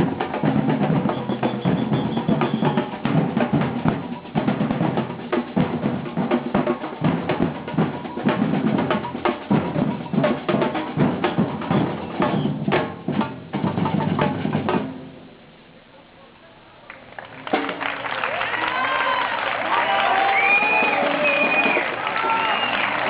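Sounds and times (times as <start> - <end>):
drums playing fast rhythm: 0.0 - 15.5, 17.4 - 18.1, 19.7 - 23.0.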